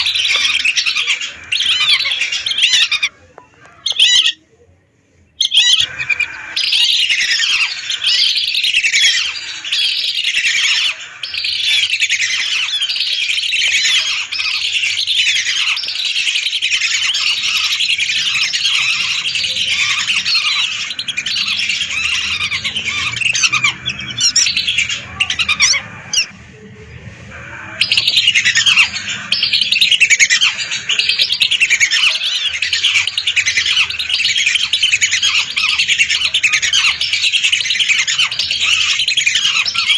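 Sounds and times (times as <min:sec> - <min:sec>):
flock of ducks whistling: 0:00.0 - 0:04.4, 0:05.4 - 0:39.9.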